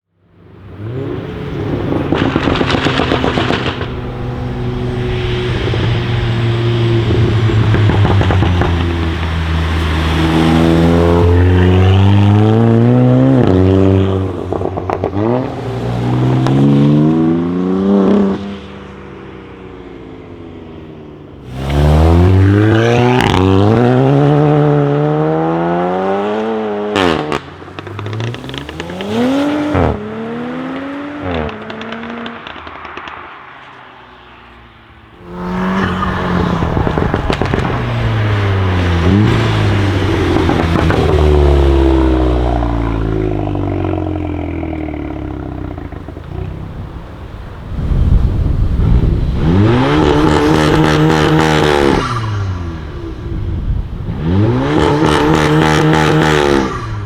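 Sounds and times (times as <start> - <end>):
car engine accelerating hard: 0.5 - 33.8, 34.4 - 57.0
exhaust pops: 1.1 - 16.8, 27.0 - 57.0.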